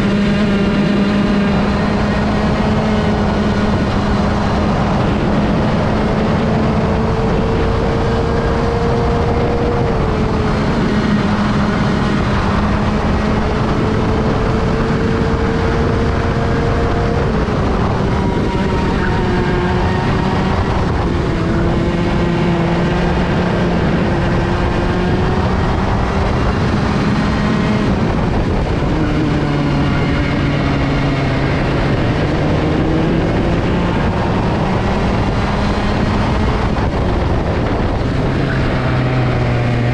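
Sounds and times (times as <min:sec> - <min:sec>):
racing kart engine: 0:00.0 - 0:39.9
wind and road noise: 0:00.0 - 0:39.9.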